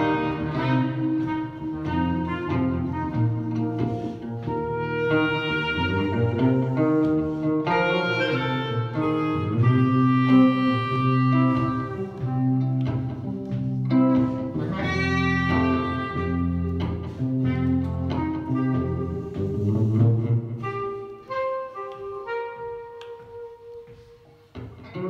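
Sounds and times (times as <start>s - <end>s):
clarinet melody: 0.0s - 25.0s
electric guitar accompaniment: 0.0s - 25.0s.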